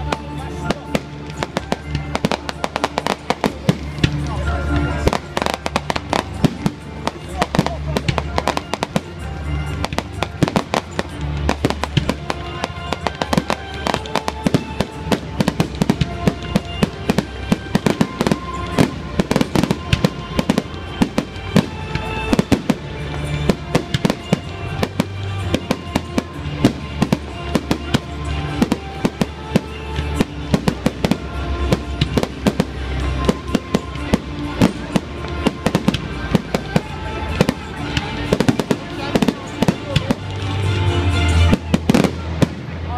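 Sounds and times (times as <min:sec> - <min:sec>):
fireworks bangs and crackles: 0:00.0 - 0:42.9
music playing: 0:00.0 - 0:42.9.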